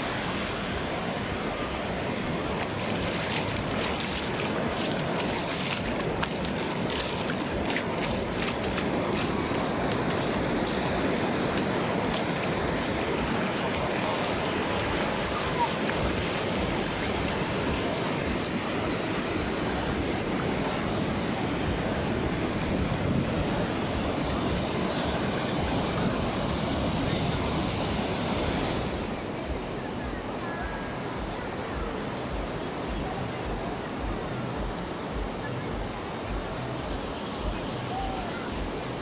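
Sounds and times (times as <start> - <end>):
sea surf breaking: 0.0 - 39.0
wind buffeting microphone: 0.0 - 39.0.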